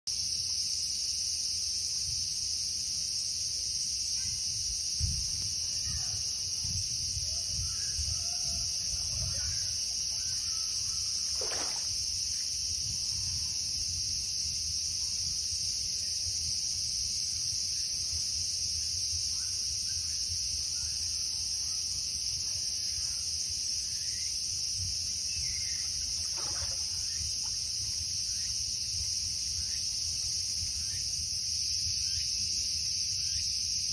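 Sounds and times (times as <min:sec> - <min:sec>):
high-pitched insect chorus: 0:00.1 - 0:33.9.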